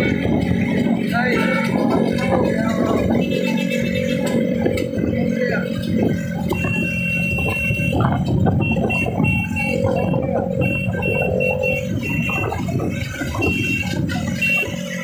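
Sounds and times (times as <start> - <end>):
motorcycles rumbling on road: 0.0 - 15.0.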